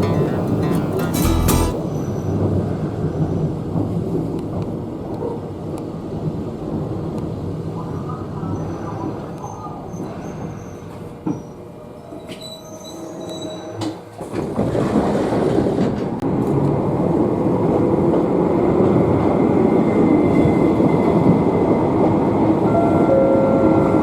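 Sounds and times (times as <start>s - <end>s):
electric train rumbling on rails: 0.0s - 24.0s.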